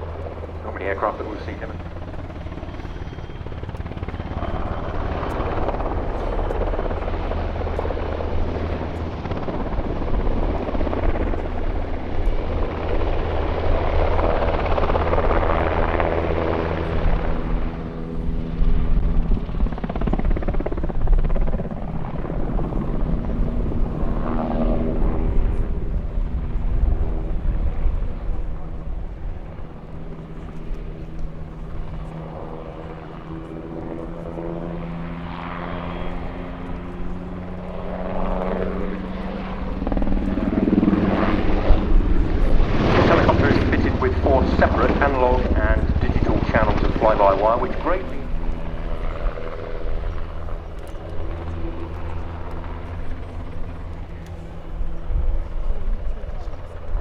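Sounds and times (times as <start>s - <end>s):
helicopter flying past: 0.0s - 57.0s.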